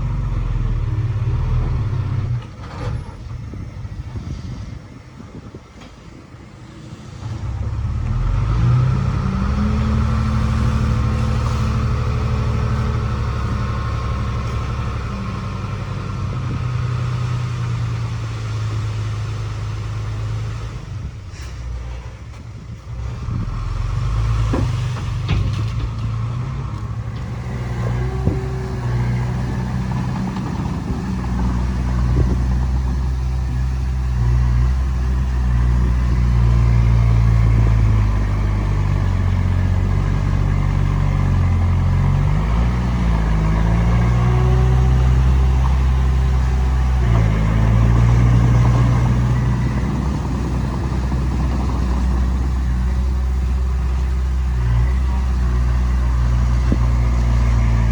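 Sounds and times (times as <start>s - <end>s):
heavy diesel engine working: 0.0s - 57.9s.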